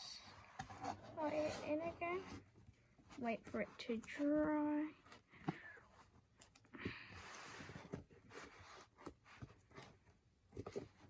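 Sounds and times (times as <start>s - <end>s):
cardboard rustling: 0.2s - 11.0s.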